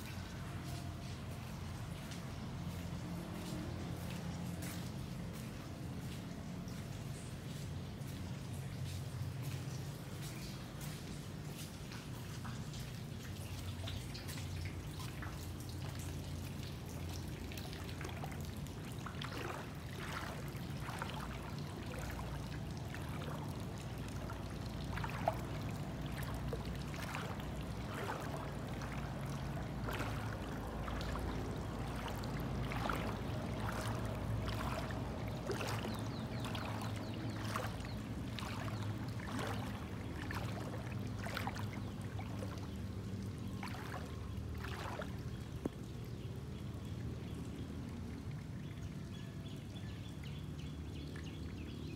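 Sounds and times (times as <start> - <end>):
floodwater splashing and trickling: 0.0 - 51.9.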